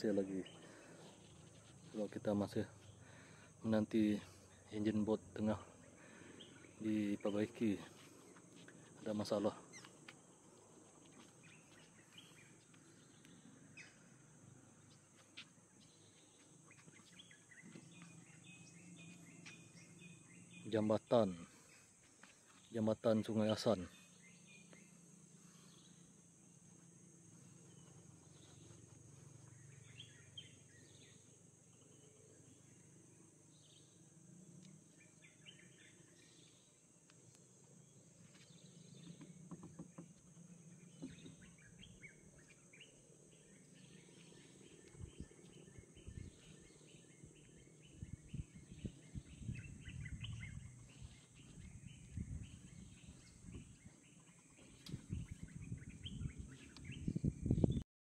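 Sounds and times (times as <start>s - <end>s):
bird chirps: 0.0s - 26.2s, 27.5s - 57.8s
high insect drone: 0.0s - 57.8s.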